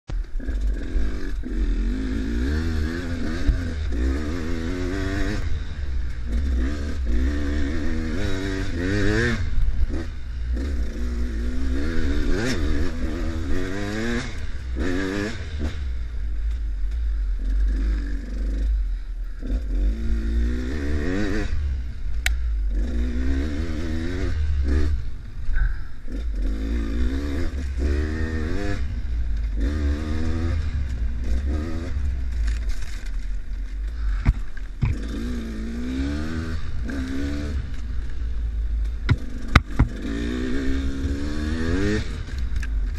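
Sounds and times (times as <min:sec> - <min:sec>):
clatter from rough trail: 0:00.1 - 0:19.9, 0:25.3 - 0:35.8, 0:36.8 - 0:40.6, 0:41.2 - 0:42.9
dirt bike engine revving: 0:00.2 - 0:42.9.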